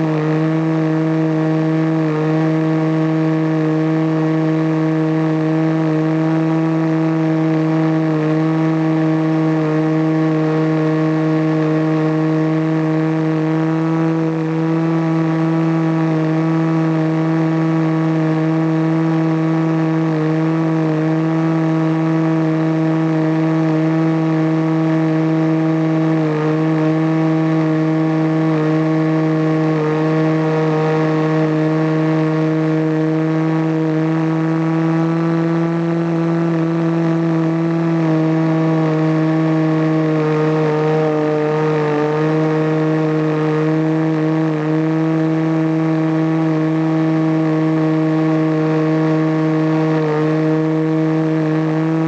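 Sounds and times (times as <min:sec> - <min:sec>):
model airplane engine running: 0:00.0 - 0:52.0.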